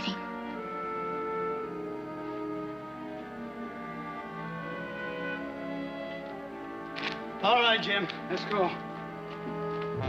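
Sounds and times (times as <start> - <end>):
orchestral horns and strings: 0.0 - 10.0.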